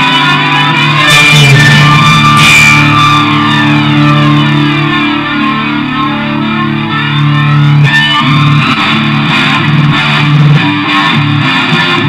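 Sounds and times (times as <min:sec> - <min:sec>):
progressive rock guitars and bass: 0:00.0 - 0:12.0.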